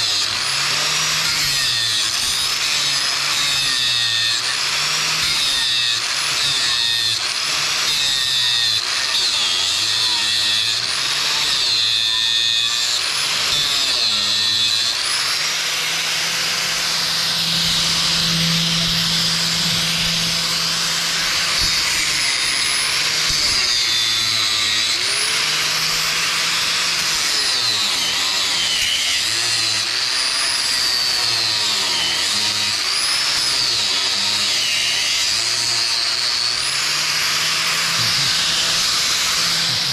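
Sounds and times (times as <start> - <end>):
angle grinder grinding nails: 0.0 - 39.9.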